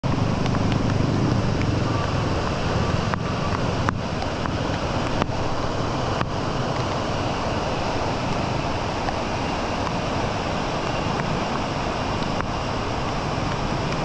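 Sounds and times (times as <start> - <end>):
heavy rain: 0.0 - 14.0
running water: 0.0 - 14.0.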